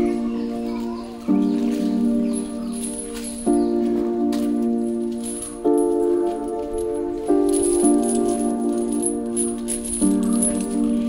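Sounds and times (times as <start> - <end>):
light rattling percussion: 0.0 - 11.0.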